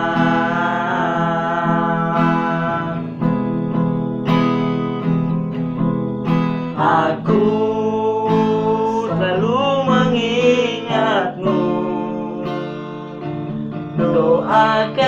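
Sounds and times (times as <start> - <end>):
person singing: 0.0 - 3.3, 6.0 - 15.0
acoustic guitar strumming chords: 0.0 - 15.0.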